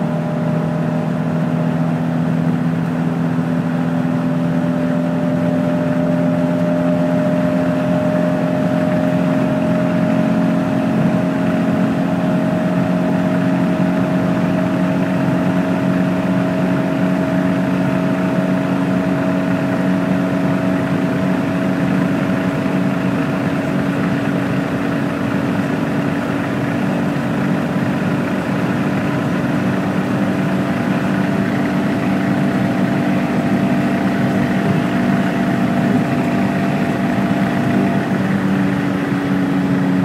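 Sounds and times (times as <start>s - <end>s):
car engine running at high revs: 0.0s - 40.0s.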